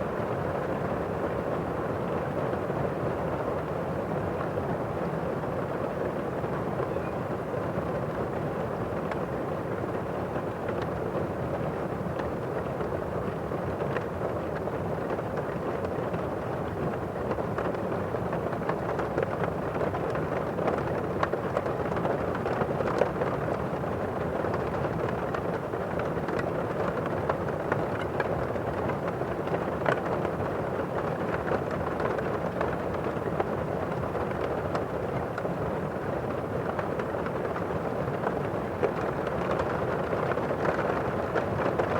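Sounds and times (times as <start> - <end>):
muffled heavy rain on roof: 0.0 - 41.9.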